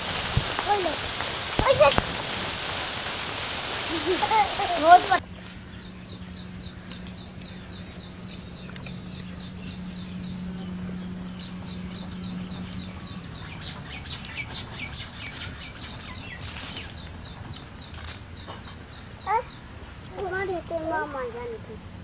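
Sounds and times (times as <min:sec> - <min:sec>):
low steady hum: 0:00.0 - 0:22.0
small bird chirping: 0:03.9 - 0:22.0.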